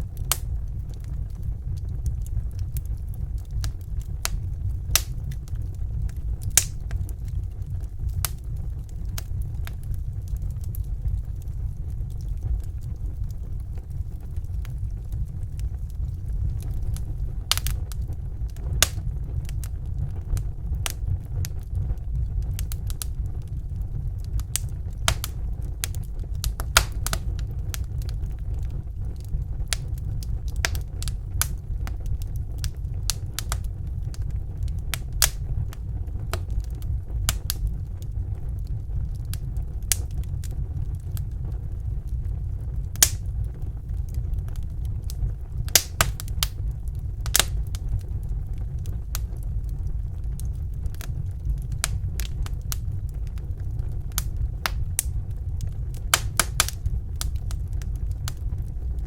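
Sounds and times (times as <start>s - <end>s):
fire crackling and popping: 0.0s - 59.0s
low rumble: 0.0s - 59.0s.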